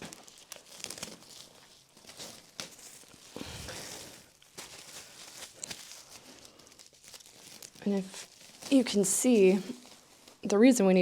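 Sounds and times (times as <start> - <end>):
cling wrap crinkling: 0.0 - 11.0.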